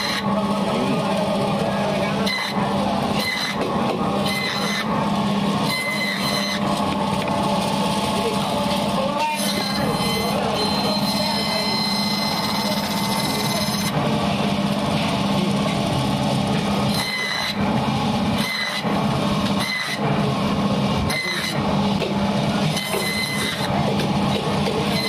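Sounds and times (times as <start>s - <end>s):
band saw running: 0.0s - 25.0s.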